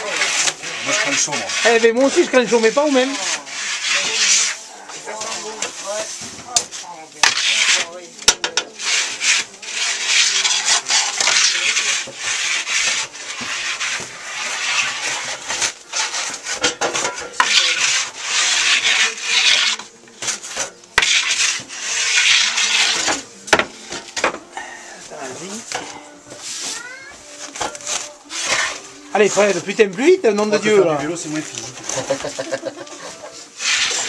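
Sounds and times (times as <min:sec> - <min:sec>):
tool scraping oven floor: 0:00.0 - 0:24.4, 0:25.0 - 0:34.0.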